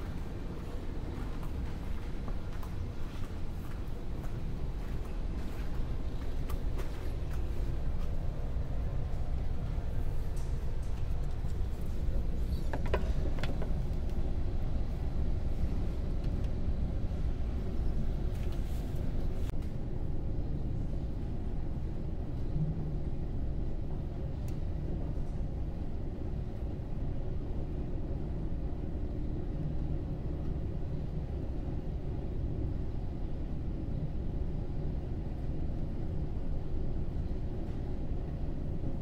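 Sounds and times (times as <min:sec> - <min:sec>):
ferry engine low rumble: 0:00.0 - 0:39.0.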